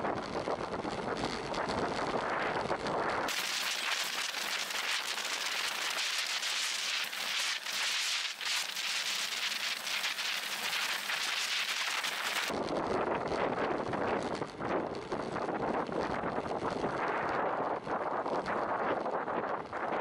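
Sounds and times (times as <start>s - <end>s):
wind noise on camera: 0.0s - 20.0s.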